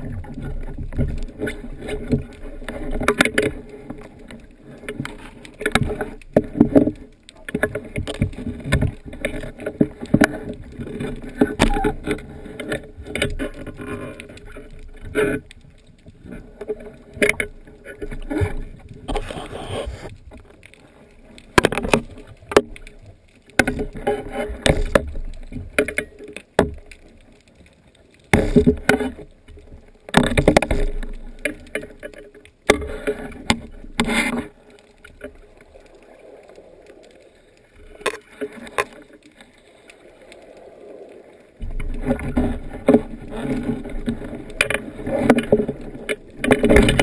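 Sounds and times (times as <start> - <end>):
water sloshing and splashing: 0.0 - 47.0.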